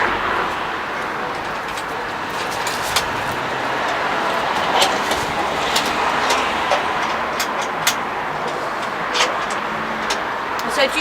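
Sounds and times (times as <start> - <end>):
road traffic noise: 0.0 - 11.0
clamps clicking and knocking: 1.0 - 10.8.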